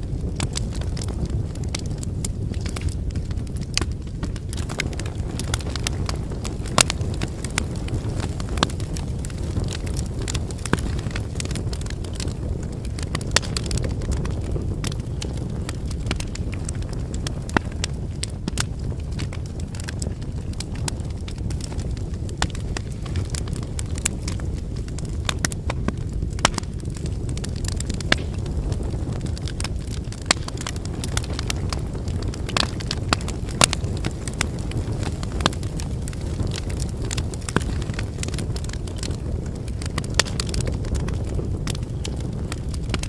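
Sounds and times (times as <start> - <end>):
firewood crackling and popping: 0.0 - 43.0
rush of flames: 0.0 - 43.0.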